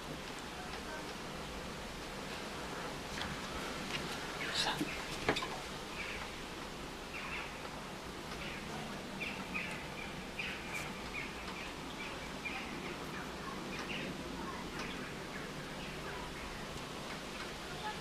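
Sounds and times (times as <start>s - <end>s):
small birds chirping: 3.2s - 18.0s.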